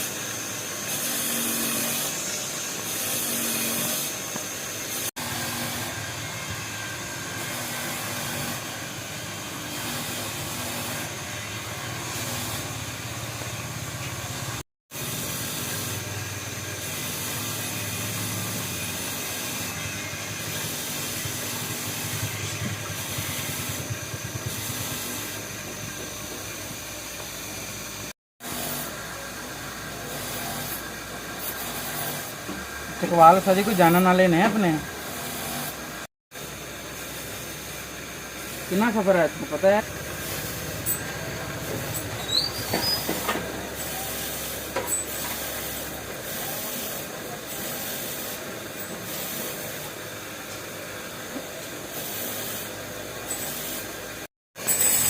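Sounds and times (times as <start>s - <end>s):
machine hiss: 0.0s - 50.0s
high machine whine: 0.0s - 55.0s.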